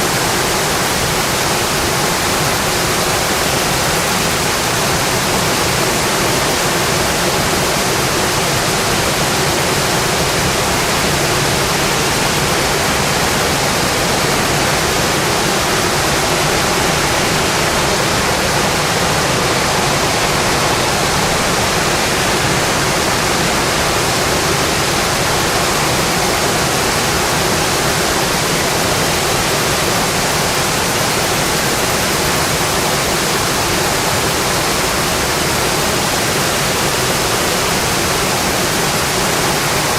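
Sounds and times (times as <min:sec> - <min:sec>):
rain drumming on a metal roof: 0:00.0 - 0:39.9.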